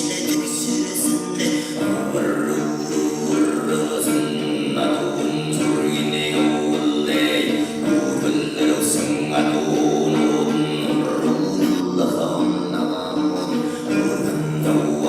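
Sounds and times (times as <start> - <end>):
throat singing drone with overtones: 0.0 - 15.0.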